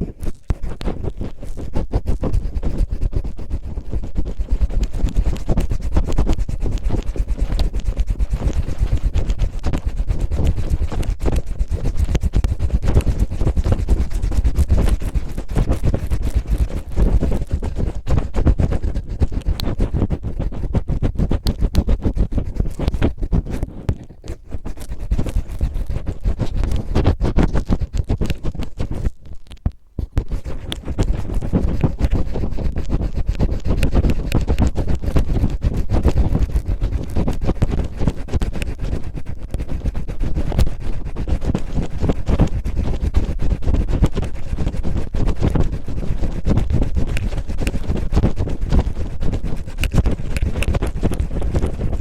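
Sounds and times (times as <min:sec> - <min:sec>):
cellophane crinkling on microphone: 0:00.0 - 0:52.0.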